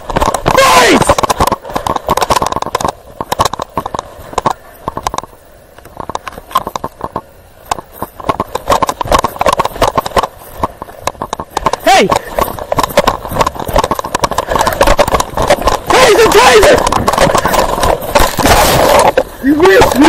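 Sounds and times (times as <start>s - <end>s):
camera knocking and scraping: 0.0s - 20.0s
running footsteps: 0.0s - 20.0s.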